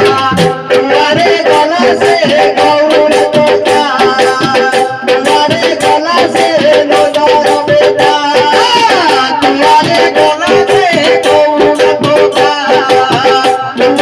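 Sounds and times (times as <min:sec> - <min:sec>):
fast percussion beat: 0:00.0 - 0:14.0
jingling hand percussion: 0:00.0 - 0:14.0
man singing into microphone: 0:00.0 - 0:14.0.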